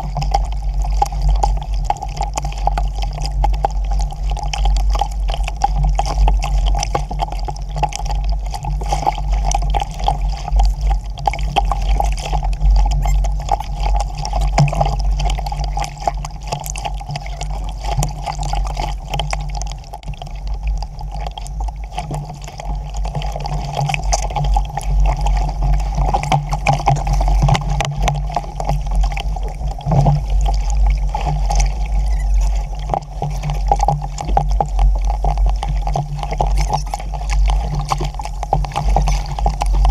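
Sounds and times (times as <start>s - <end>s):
water sloshing against boat hull: 0.0s - 39.9s.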